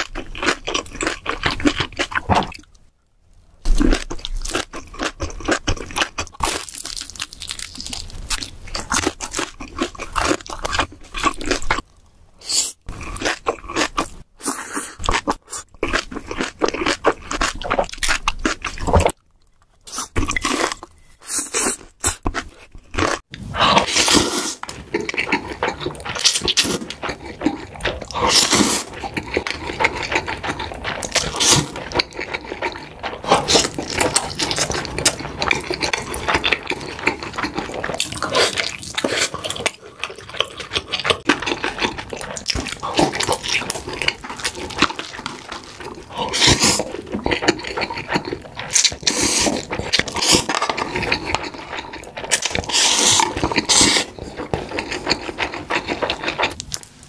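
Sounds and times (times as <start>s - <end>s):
chewing and crunching food: 0.0s - 2.8s, 3.7s - 12.1s, 12.8s - 57.0s.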